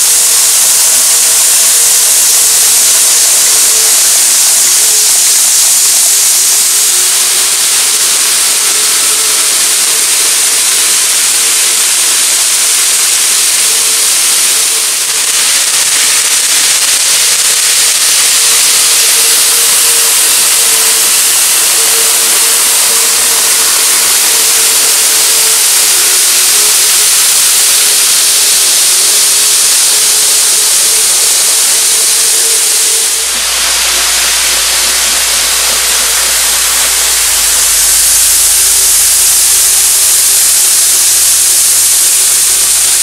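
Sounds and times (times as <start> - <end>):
model train running hiss: 0.0 - 43.0.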